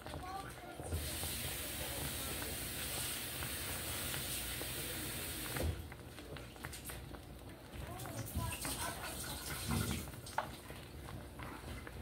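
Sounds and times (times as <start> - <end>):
soup boiling with bubbling pops: 0.0 - 12.0.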